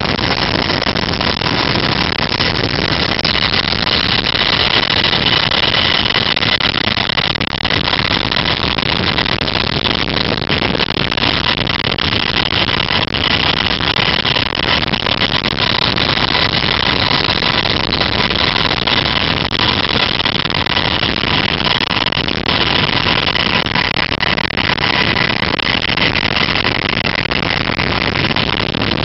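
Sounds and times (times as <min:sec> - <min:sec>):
high turbine whine: 0:00.0 - 0:29.0.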